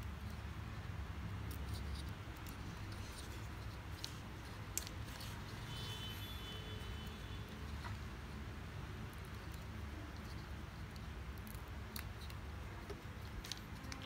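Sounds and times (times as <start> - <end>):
wire threaded through plastic board: 0.0 - 14.0.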